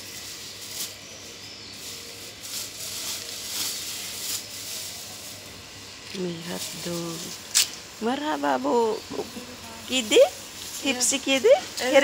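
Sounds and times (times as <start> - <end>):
plastic bags rustling: 0.0 - 12.0.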